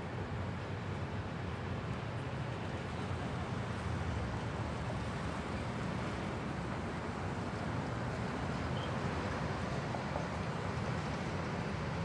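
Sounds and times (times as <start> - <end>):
dense city traffic rumble: 0.0 - 12.0.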